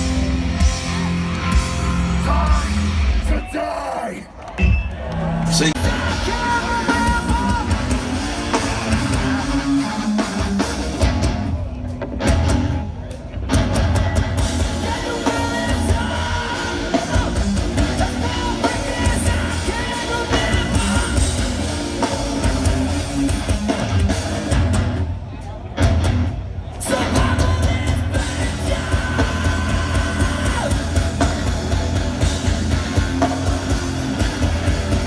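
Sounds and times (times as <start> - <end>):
distorted guitars: 0.0 - 3.9, 4.6 - 35.0
drums: 0.0 - 35.0.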